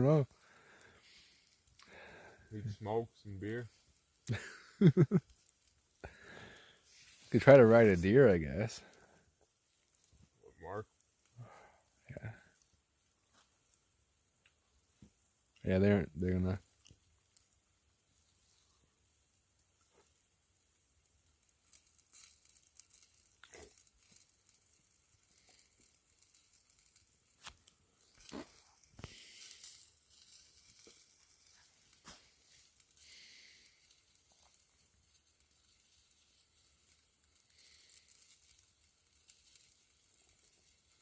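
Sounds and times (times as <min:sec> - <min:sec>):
campfire crackling and popping: 0:00.0 - 0:41.0
meat sizzling: 0:00.0 - 0:41.0.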